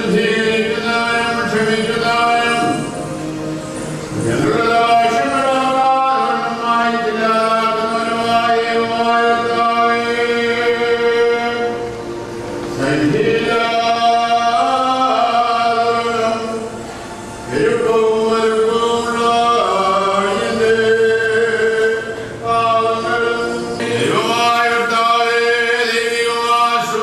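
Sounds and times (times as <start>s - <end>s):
choir singing unaccompanied chant: 0.0s - 27.0s.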